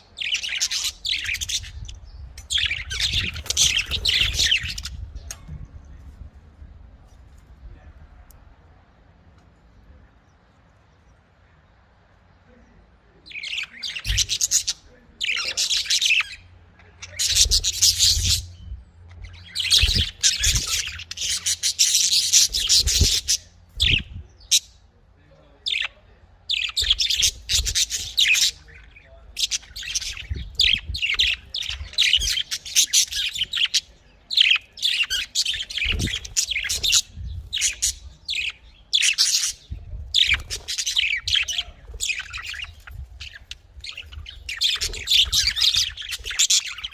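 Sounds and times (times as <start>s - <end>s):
budgerigars chirping and chattering: 0.0s - 6.2s, 13.2s - 46.9s.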